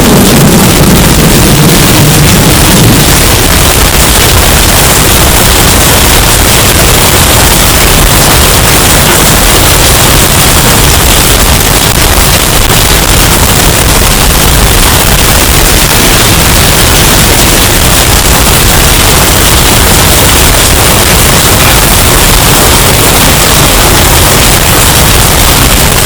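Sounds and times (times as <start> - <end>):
distorted hurricane wind: 0.0 - 26.0.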